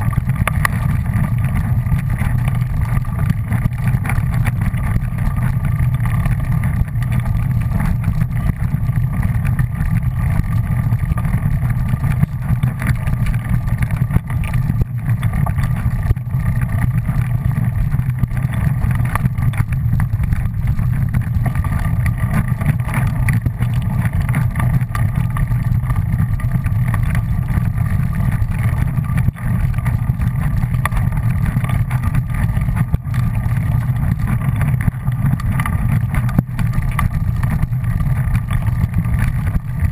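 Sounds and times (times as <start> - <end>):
wind buffeting camera: 0.0 - 39.9.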